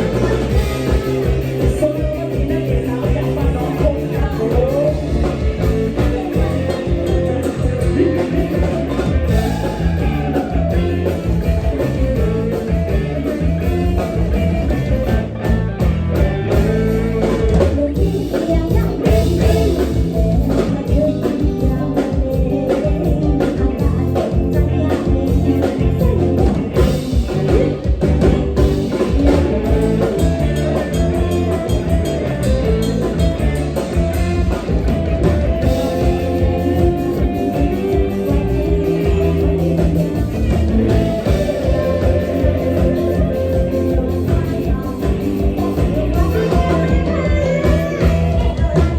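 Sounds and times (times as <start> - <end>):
band playing dance music: 0.0 - 48.9
person singing: 0.0 - 48.9.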